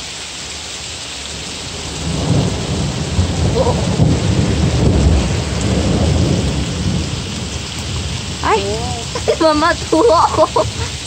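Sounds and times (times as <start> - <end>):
rain hissing: 0.0 - 11.0
thunder rumbling: 1.3 - 11.0.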